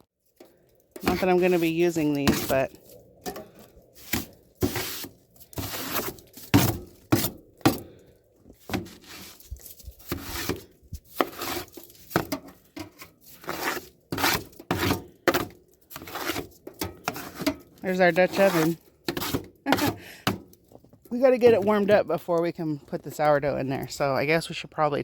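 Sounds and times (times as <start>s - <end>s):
snow brushed and scraped off grill: 0.3s - 20.6s.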